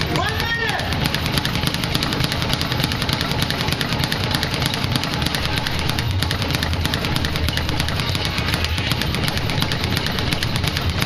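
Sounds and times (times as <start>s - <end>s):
speed bag rattling: 0.0s - 11.0s.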